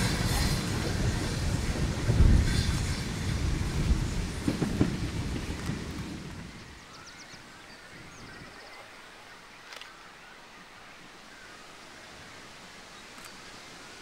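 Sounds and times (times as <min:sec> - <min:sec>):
wind rustling leaves: 0:00.0 - 0:14.0.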